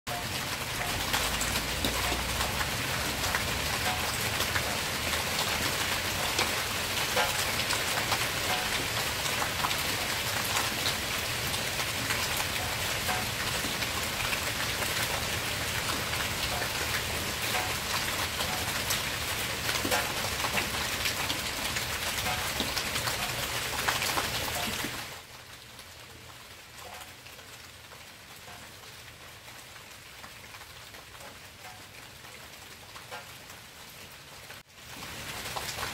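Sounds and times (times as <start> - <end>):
steady rain patter: 0.1 - 35.9.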